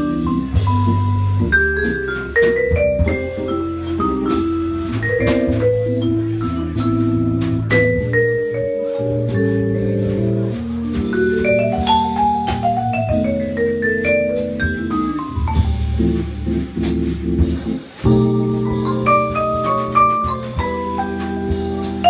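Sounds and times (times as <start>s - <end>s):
jazz vibraphone chords: 0.0s - 22.0s.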